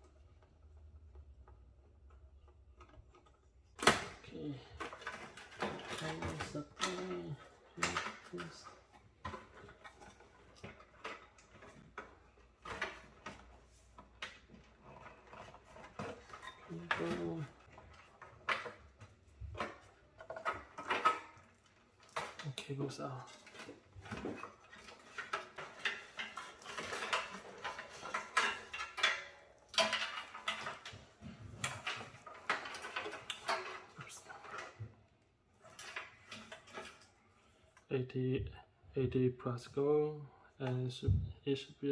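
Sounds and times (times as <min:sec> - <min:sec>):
light clicks and knocks of cables: 0:00.0 - 0:37.9.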